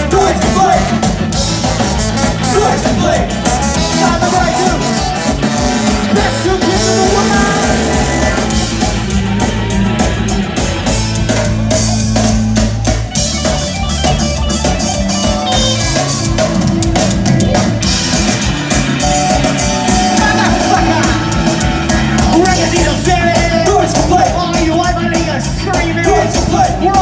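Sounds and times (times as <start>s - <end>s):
ska-punk band playing live: 0.0s - 27.0s.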